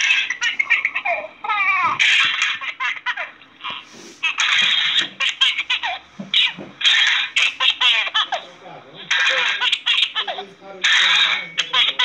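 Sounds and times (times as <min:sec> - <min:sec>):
baby laughing: 0:00.0 - 0:12.0.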